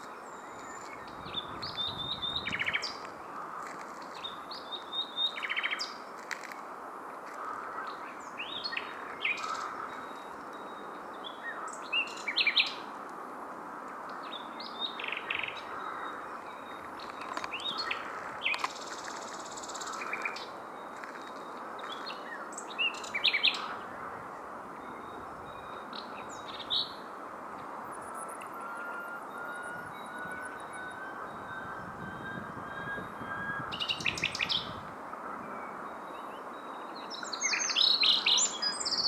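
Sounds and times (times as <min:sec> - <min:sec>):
nightingale singing: 0:00.0 - 0:06.0, 0:07.8 - 0:12.9, 0:14.2 - 0:24.0, 0:24.7 - 0:39.0.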